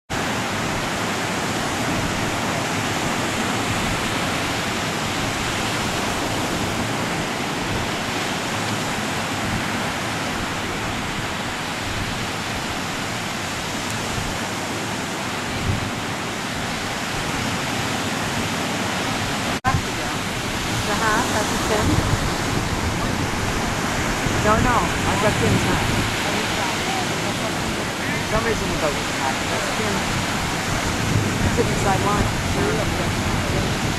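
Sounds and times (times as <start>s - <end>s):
surf breaking on beach: 0.1s - 33.9s.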